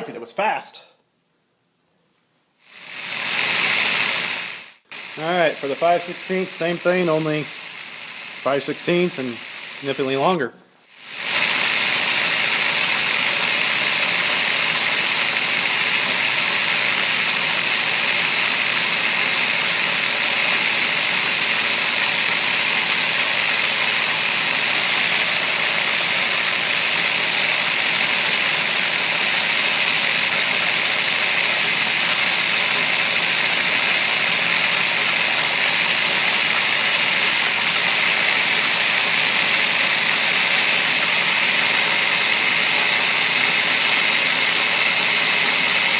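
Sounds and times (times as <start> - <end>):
lathe milling steel: 2.7 - 10.3, 10.9 - 45.9.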